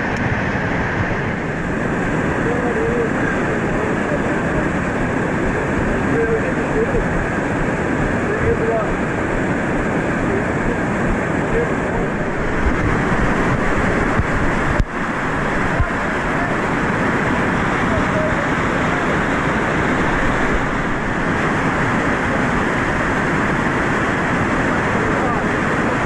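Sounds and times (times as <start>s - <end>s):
river rapids rushing over rocks: 0.0s - 26.0s.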